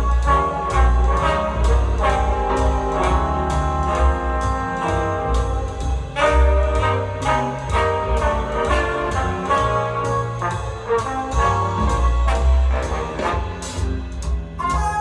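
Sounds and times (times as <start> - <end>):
jazz music through loudspeaker: 0.0 - 15.0.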